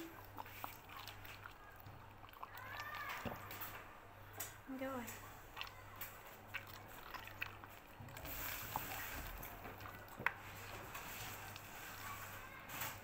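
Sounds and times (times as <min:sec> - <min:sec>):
dog chewing and slurping: 0:00.0 - 0:03.7, 0:05.2 - 0:12.5.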